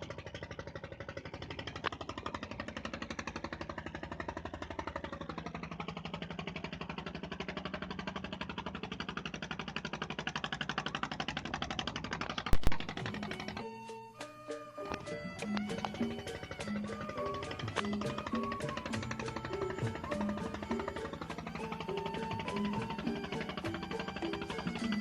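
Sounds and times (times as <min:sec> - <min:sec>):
engine knocking: 0:00.0 - 0:25.0.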